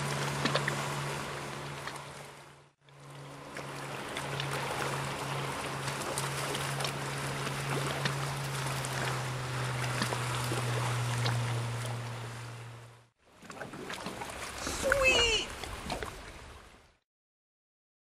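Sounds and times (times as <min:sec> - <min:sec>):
outboard motor droning: 0:00.0 - 0:16.8.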